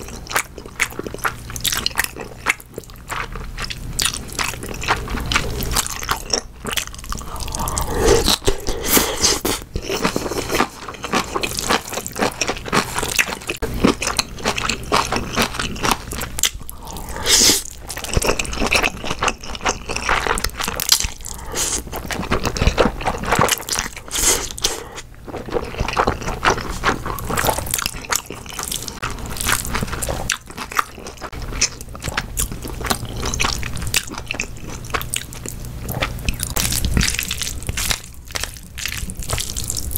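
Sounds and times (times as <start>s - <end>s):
crunchy chewing: 0.0s - 39.9s
wet chewing and slurping noodles: 0.0s - 39.9s.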